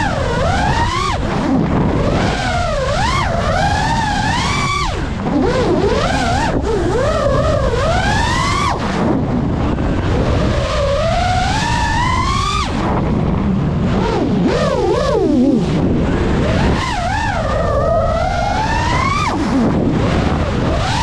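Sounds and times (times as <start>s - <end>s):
drone motors whining: 0.0s - 21.0s
rush of wind and prop wash: 0.0s - 21.0s.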